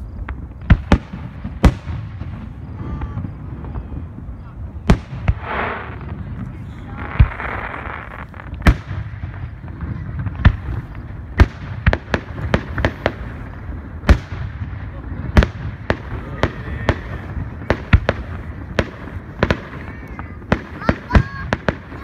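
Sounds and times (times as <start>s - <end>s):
firework crackle: 0.0s - 22.0s.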